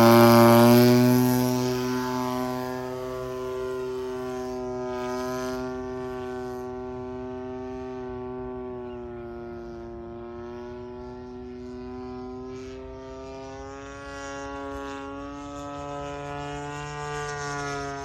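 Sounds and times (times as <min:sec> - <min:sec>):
model plane engine: 0:00.0 - 0:18.0.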